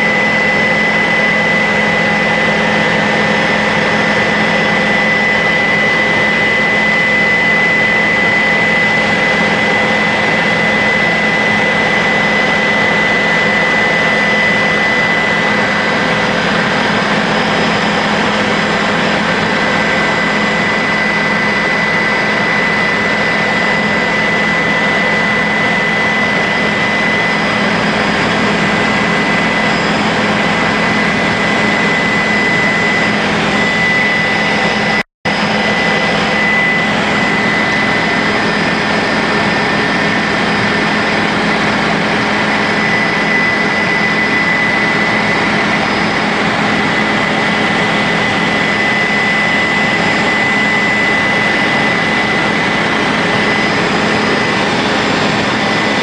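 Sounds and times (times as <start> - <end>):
helicopter engine and rotor drone: 0.0 - 56.0
high whine: 0.0 - 56.0.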